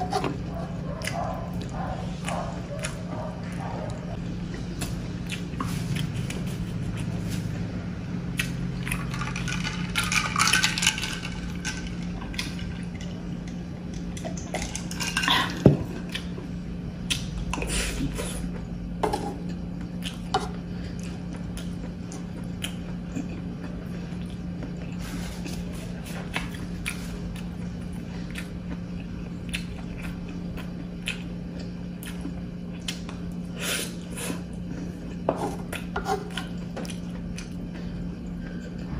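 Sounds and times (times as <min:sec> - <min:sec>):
person chewing: 0:00.0 - 0:07.6, 0:08.3 - 0:10.4, 0:15.3 - 0:38.9.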